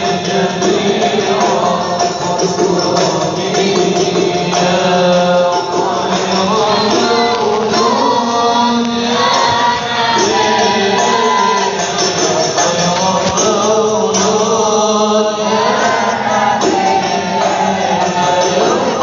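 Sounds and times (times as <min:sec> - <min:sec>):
frame drums beating: 0:00.0 - 0:19.0
men chanting together: 0:00.0 - 0:19.0.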